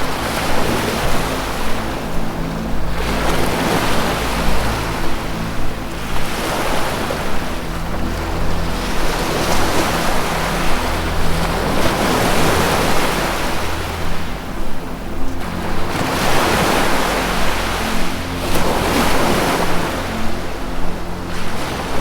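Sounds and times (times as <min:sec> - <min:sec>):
ambient meditation music: 0:00.0 - 0:22.0
ocean surf washing in: 0:00.0 - 0:22.0.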